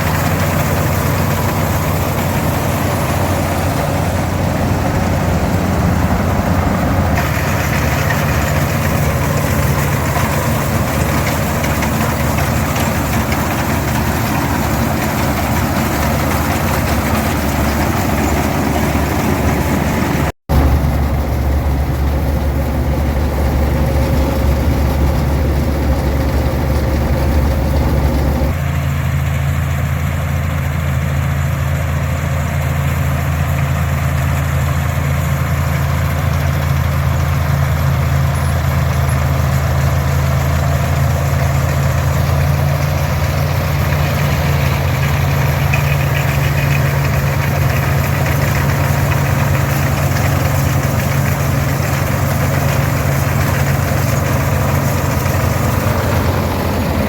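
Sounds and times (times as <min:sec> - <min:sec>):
combine working: 0:00.0 - 0:28.6, 0:39.4 - 0:57.0
tractor diesel engine running: 0:00.0 - 0:57.0.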